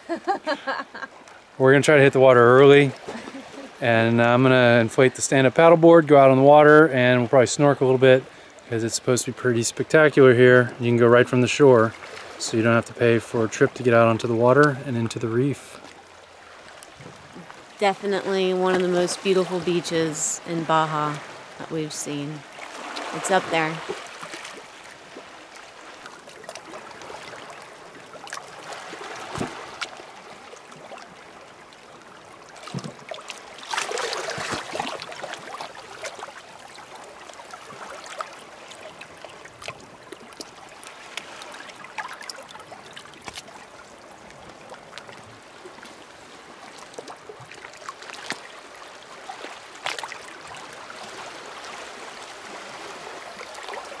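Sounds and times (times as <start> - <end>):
small waves lapping on rocks: 0.0 - 54.0.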